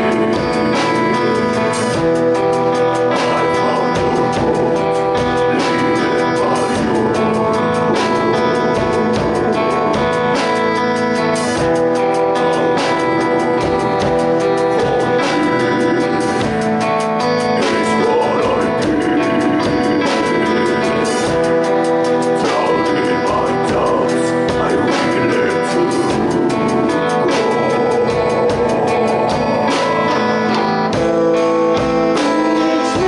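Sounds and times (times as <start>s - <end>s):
band playing a song: 0.0s - 33.0s.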